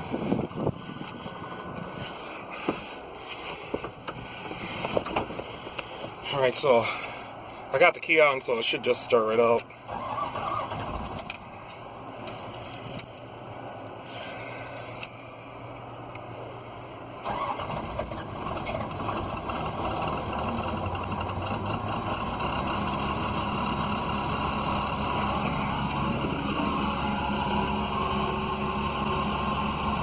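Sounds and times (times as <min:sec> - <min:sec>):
excavator engine running: 0:00.0 - 0:07.4, 0:09.6 - 0:30.0.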